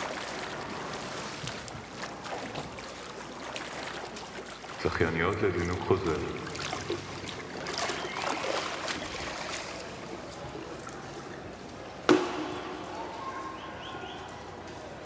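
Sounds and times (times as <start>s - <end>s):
pool water splashing and dripping: 0.0s - 15.0s.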